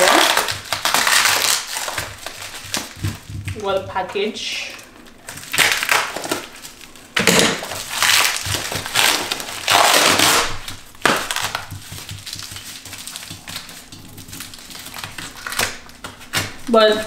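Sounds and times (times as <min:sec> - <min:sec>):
bubble wrap crinkling and tearing: 0:00.0 - 0:17.0.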